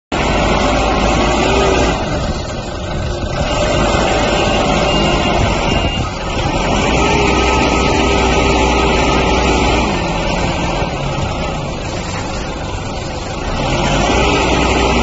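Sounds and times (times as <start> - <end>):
truck diesel engine running: 0.1 - 15.0.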